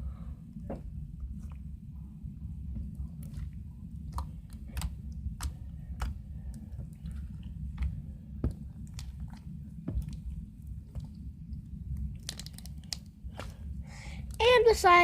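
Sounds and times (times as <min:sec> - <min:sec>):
low hum: 0:00.0 - 0:15.0
slime squelching: 0:02.6 - 0:14.8.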